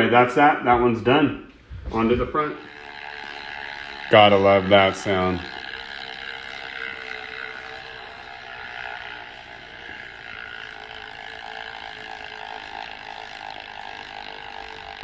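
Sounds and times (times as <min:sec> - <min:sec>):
bicycle wheel spinning whir: 0:01.0 - 0:15.0.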